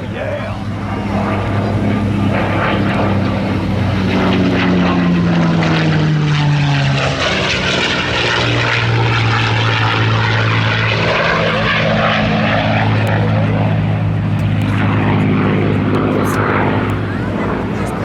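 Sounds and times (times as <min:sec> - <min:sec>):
airplane engine drone: 0:00.0 - 0:18.0.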